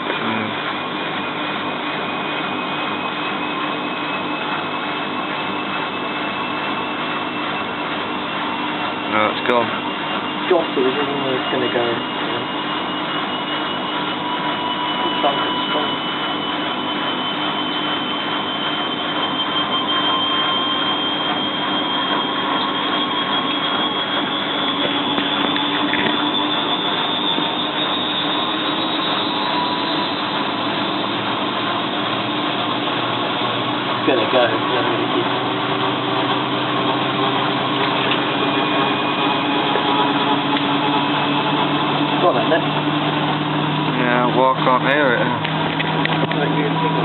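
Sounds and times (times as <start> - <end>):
washing machine spinning: 0.0 - 47.0.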